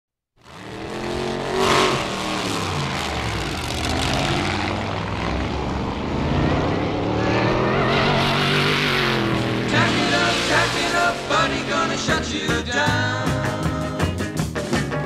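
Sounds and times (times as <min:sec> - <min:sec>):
hot-rod engines revving: 0:00.4 - 0:14.5.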